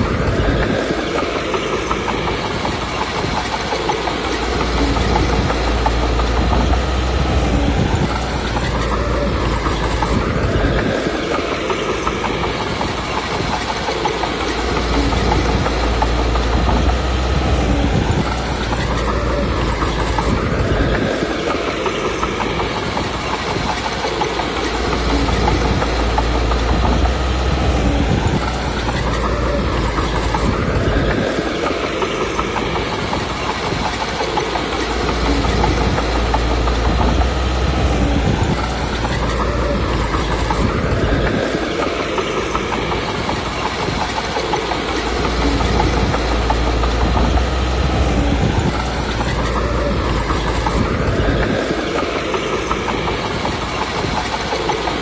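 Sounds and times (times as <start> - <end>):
bulldozer diesel engine running: 0.1 - 55.0.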